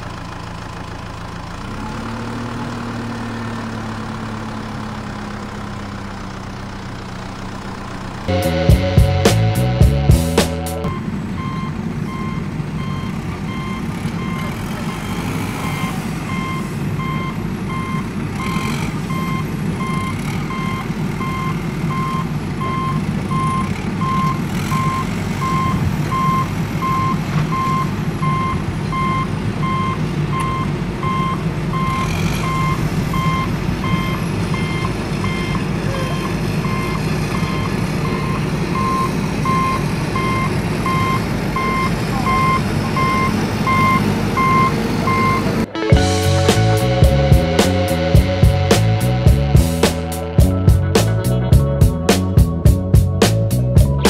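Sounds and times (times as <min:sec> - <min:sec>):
low engine rumble: 0:00.0 - 0:54.0
truck reversing alarm beeping: 0:01.6 - 0:50.4.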